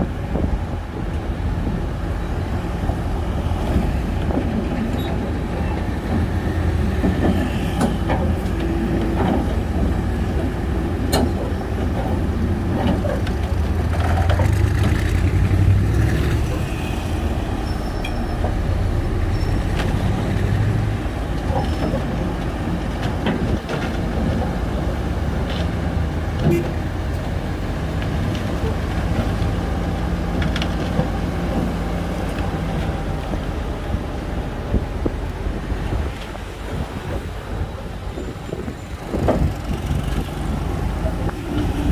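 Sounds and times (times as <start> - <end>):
bulldozer diesel engine under load: 0.0 - 41.9.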